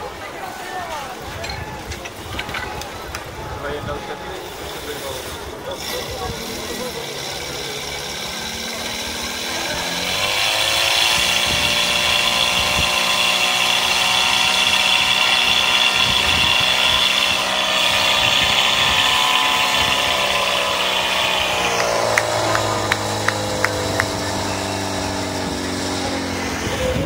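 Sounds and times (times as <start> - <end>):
pump engine revving: 4.3 - 27.0.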